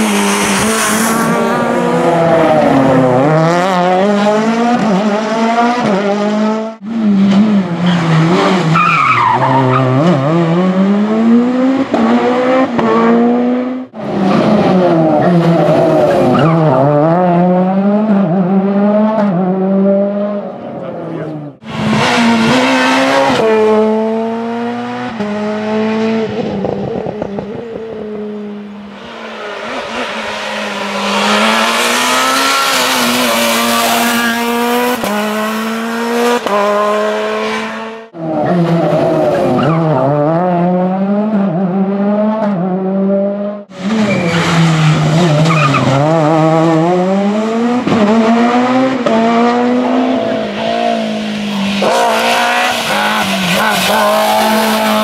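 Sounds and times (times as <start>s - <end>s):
rally car engines at full throttle: 0.0s - 55.0s.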